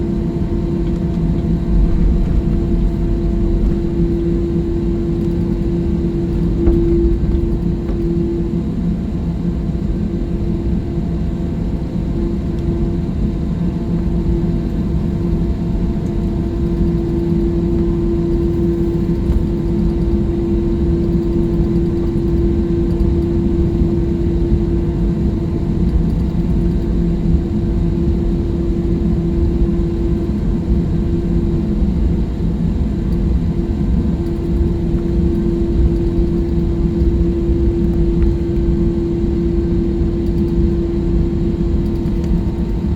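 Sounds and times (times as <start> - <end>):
jet engines drone in cabin: 0.0 - 42.9.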